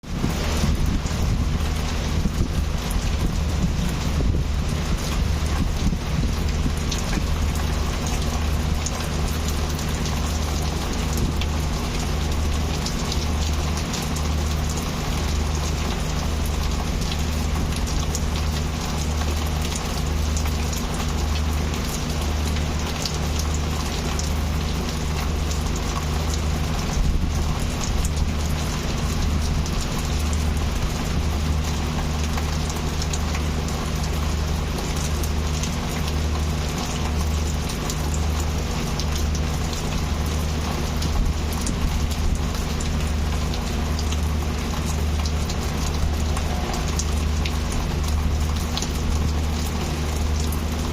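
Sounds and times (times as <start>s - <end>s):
heavy rain hissing: 0.0s - 50.9s.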